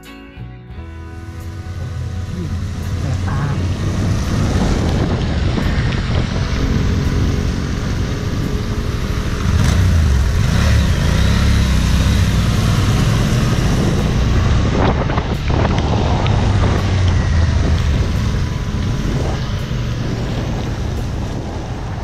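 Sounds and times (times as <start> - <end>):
motorcycle engine revving: 1.4 - 22.0.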